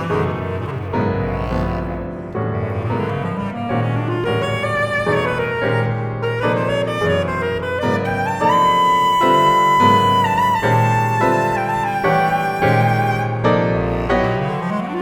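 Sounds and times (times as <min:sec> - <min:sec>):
bass clarinet melody: 0:00.0 - 0:15.0
piano chords: 0:00.0 - 0:15.0.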